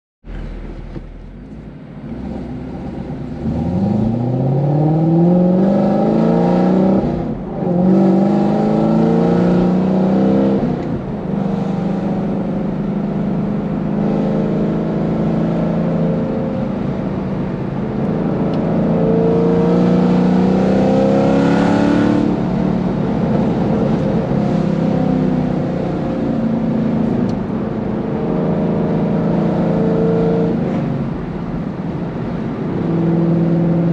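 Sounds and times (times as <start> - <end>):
car engine revving from inside: 0.3 - 33.9.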